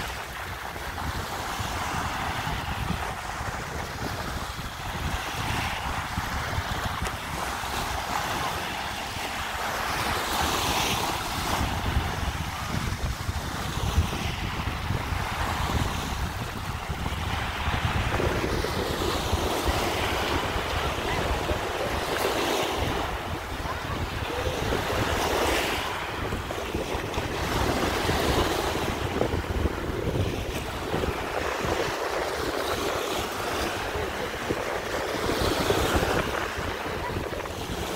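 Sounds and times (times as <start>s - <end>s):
waves washing and slapping: 0.0s - 37.9s
wind buffeting microphone: 0.0s - 37.9s.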